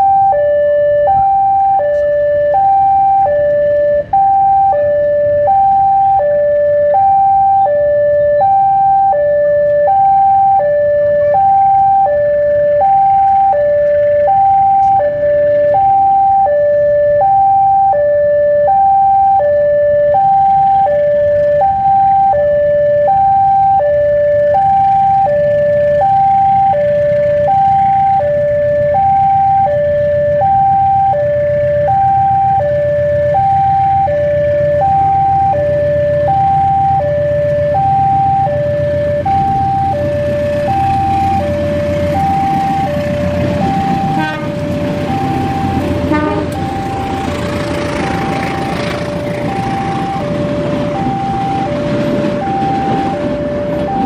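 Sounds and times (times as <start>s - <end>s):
diesel locomotive engine rumble: 0.0s - 54.0s
level crossing alarm two-tone: 0.0s - 54.0s.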